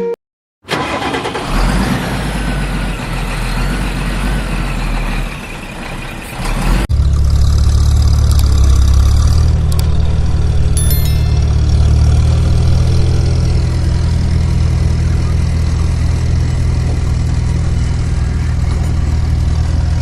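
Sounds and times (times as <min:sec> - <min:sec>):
rough vehicle engine running: 0:01.4 - 0:20.0
deep steady engine rumble: 0:02.1 - 0:20.0.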